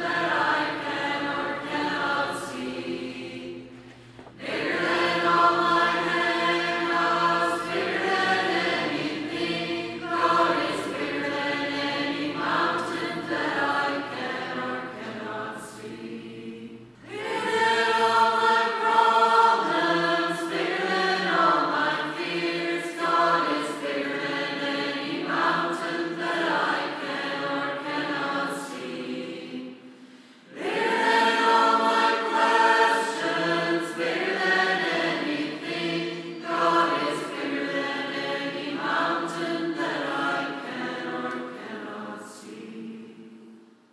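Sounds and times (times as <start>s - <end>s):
choir singing: 0.0s - 43.9s.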